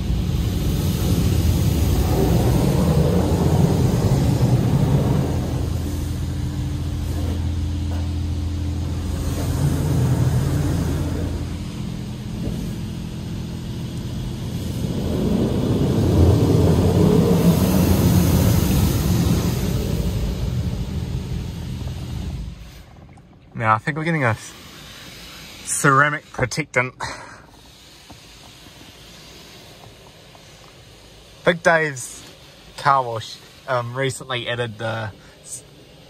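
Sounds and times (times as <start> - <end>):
steady low hum: 0.0 - 36.0
water jets spraying on car: 0.0 - 36.0.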